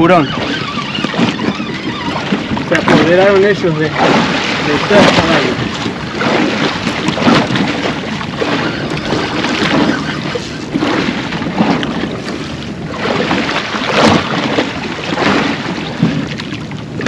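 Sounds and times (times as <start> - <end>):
water slapping boat hull: 0.0 - 17.0
wind gusting over microphone: 0.0 - 17.0.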